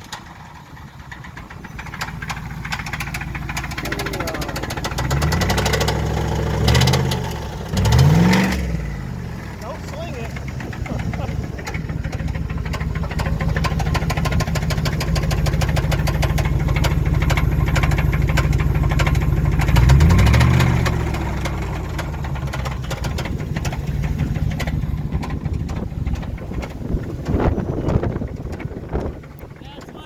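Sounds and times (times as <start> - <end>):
engine idling with knock: 0.0 - 30.0.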